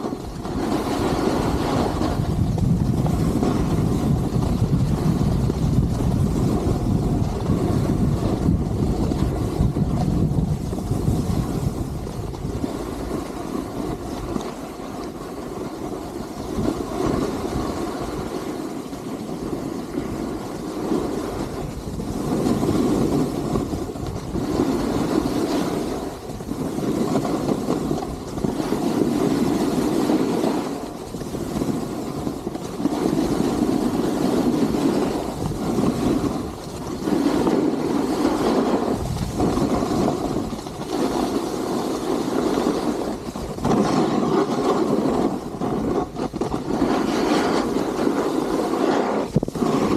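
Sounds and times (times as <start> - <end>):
ski edges carving on snow: 0.0 - 49.9.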